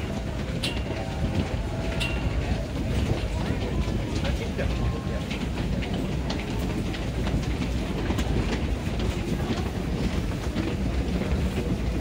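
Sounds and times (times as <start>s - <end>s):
escalator low rumble: 0.0s - 12.0s.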